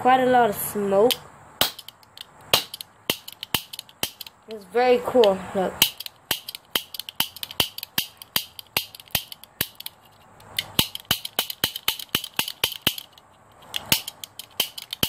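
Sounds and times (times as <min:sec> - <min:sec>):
toy cap gun clicks and snaps: 0:01.1 - 0:04.4, 0:05.2 - 0:15.0.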